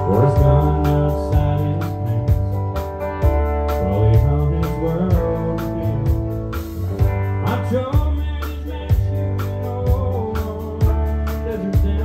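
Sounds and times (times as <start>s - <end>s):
country band playing: 0.0s - 12.0s
person singing: 0.0s - 12.0s.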